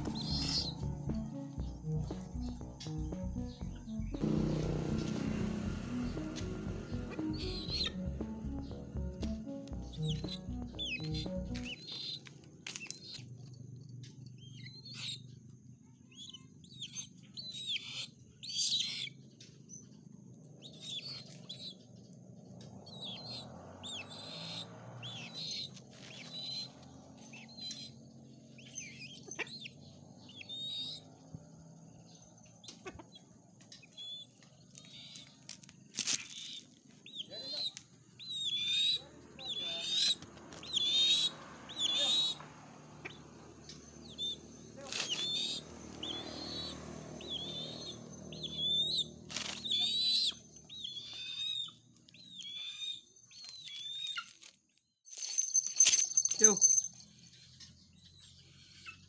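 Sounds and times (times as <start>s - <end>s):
birds chirping: 0.0s - 13.3s, 14.3s - 54.2s.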